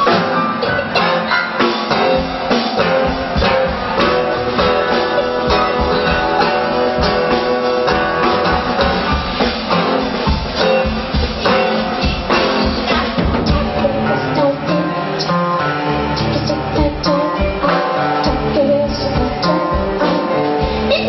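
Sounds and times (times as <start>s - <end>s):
drum kit beat: 0.0s - 21.0s.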